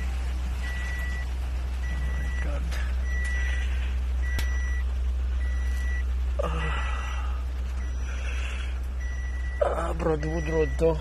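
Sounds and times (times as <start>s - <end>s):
vehicle warning beeper: 0.0s - 11.0s.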